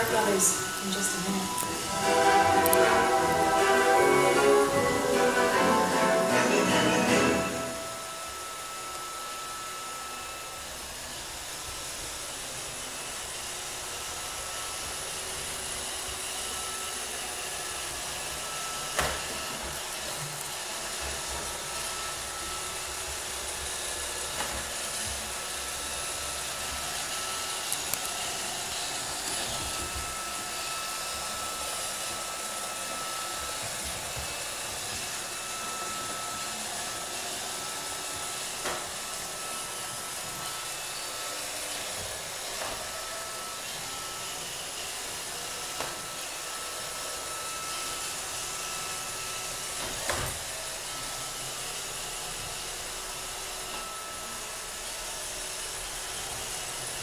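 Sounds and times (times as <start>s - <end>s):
robot vacuum whirring: 0.0s - 57.0s.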